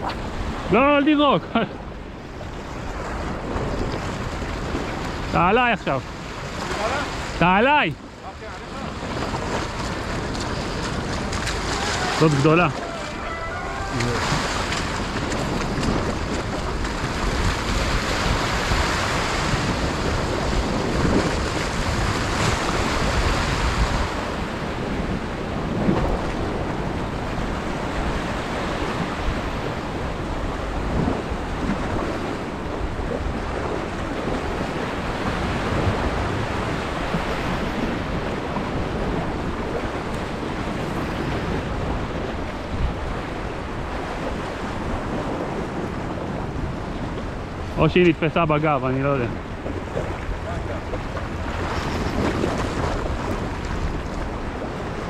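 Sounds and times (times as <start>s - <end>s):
sea waves washing: 0.0s - 55.0s
wind buffeting the microphone: 0.0s - 55.0s.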